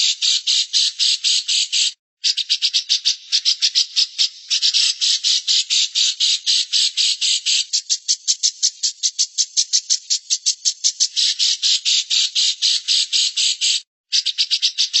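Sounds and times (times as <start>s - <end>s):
bird chattering: 0.0s - 15.0s.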